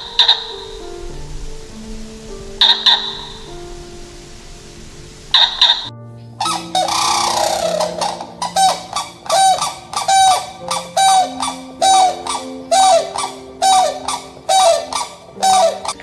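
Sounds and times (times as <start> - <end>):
crane honking calls: 0.0 - 16.0.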